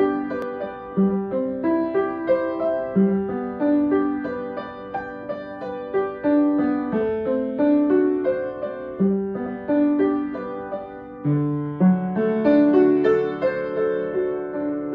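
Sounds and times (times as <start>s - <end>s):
piano broken chords: 0.0s - 14.9s.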